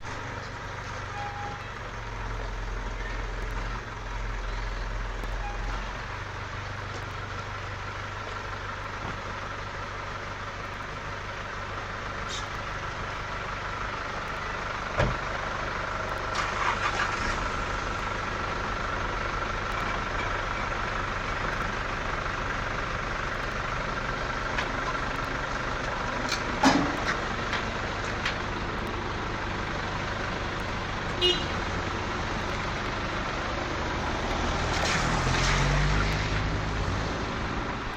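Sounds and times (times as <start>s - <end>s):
low engine drone: 0.0s - 37.9s.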